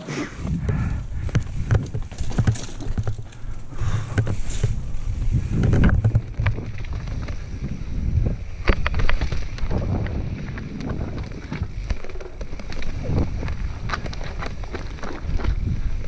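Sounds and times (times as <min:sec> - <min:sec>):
bike rattling: 0:00.0 - 0:16.0
bike tyres bumping over rock: 0:00.2 - 0:16.0
wind rumble on microphone: 0:00.3 - 0:16.0.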